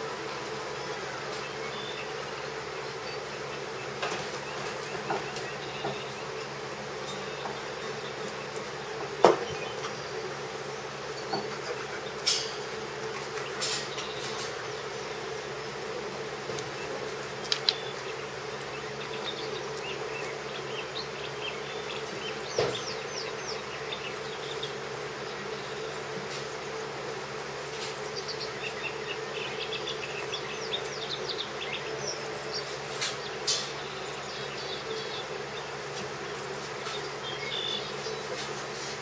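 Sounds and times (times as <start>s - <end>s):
steady buzzing hum: 0.0s - 39.0s.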